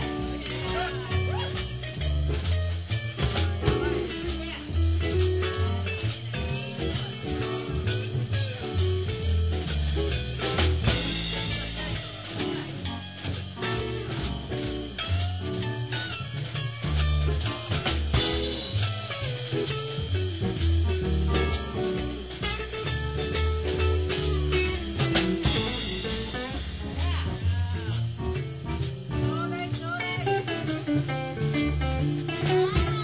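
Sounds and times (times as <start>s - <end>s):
drum kit beat: 0.0s - 33.0s
guitar: 0.0s - 33.0s
walking bass line: 0.0s - 33.0s.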